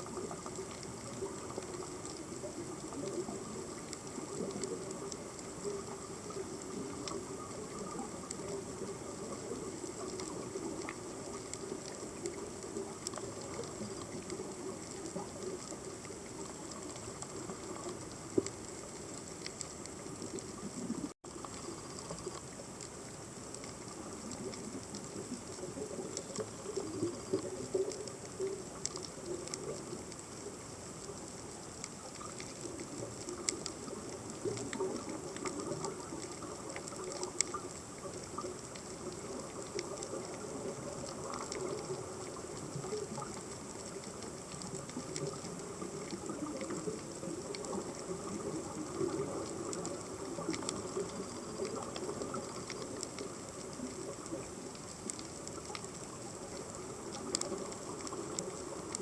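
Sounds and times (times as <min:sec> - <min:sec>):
snapping shrimp clicks and crackles: 0:00.0 - 0:59.0.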